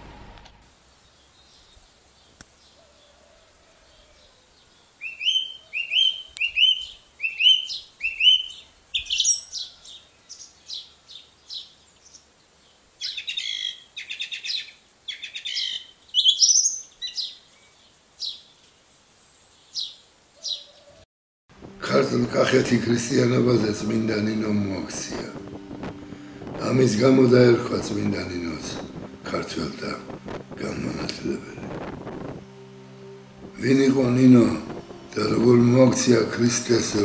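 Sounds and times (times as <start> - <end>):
birdsong with trills: 0.9 - 18.6, 19.5 - 21.0, 21.6 - 37.0.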